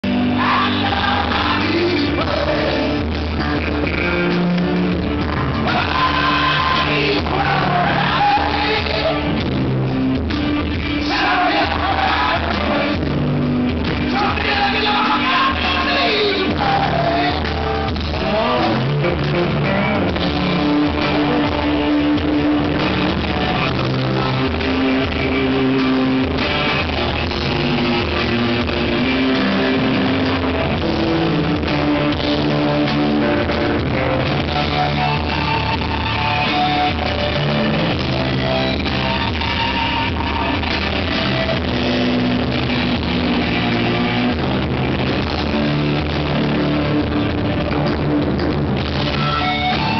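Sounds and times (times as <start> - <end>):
electric guitar: 0.0 - 49.9
live rock band playing: 0.0 - 49.9.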